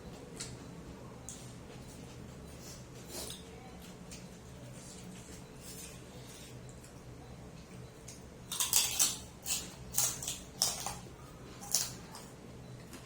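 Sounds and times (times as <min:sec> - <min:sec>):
steady low hum: 0:00.0 - 0:13.0
food crunching while chewed: 0:01.3 - 0:13.0.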